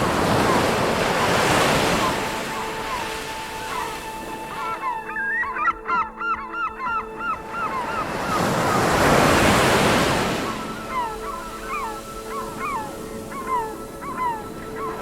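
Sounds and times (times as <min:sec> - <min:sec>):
gulls crying: 0:00.0 - 0:15.0
sea waves washing ashore: 0:00.0 - 0:15.0.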